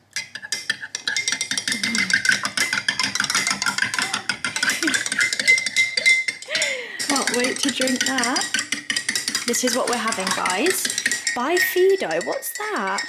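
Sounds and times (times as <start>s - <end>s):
metal spoon clinking in mug: 0.2s - 13.0s.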